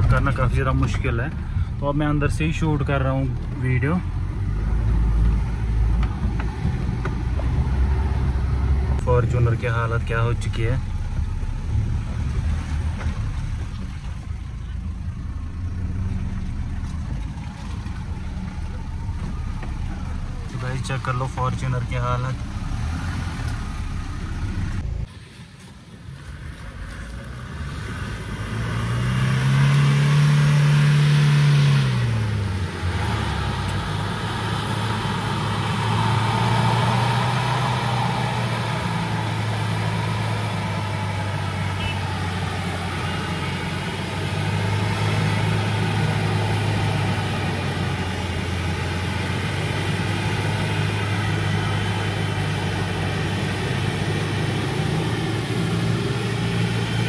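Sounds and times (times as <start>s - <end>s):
car engine revving: 0.0s - 25.1s, 27.2s - 57.0s.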